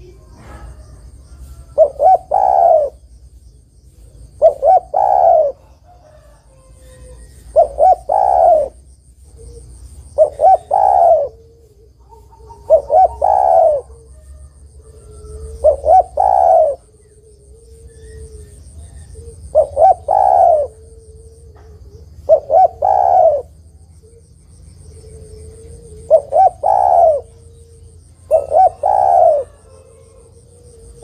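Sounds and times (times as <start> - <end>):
dove cooing: 0.0 - 3.2, 4.0 - 31.0.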